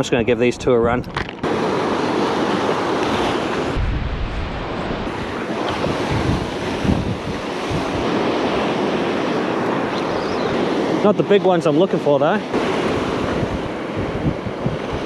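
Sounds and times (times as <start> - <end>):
wind buffeting microphone: 0.0 - 15.0
surf breaking: 1.4 - 15.0.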